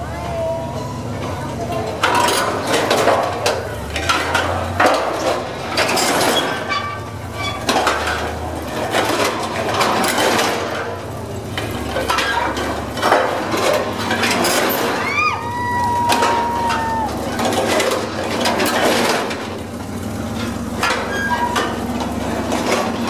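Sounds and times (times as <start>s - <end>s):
low engine rumble: 0.0s - 23.0s
metal legs clanking and rattling: 0.8s - 23.0s.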